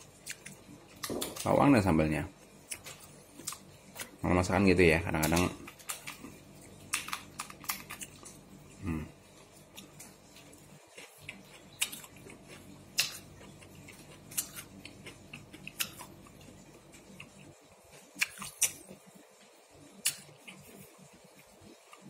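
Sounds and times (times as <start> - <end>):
faint low hum: 0.0 - 22.0
chewing: 2.6 - 4.2, 5.2 - 22.0.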